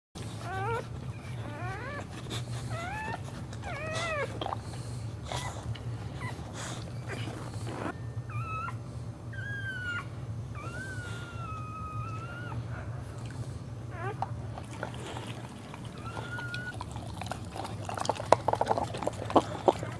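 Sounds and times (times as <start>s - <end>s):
dog whining: 0.2s - 19.9s.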